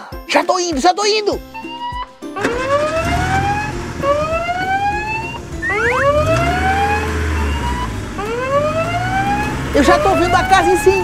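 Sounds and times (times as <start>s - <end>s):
fire engine siren wailing: 1.6s - 11.0s.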